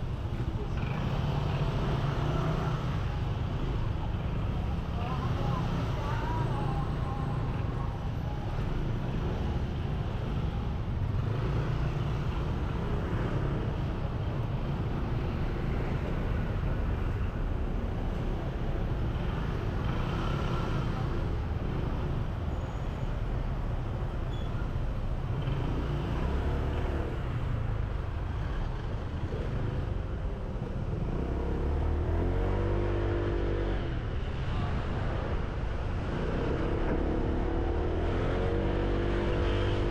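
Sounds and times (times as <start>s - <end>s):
road traffic: 0.0s - 39.9s.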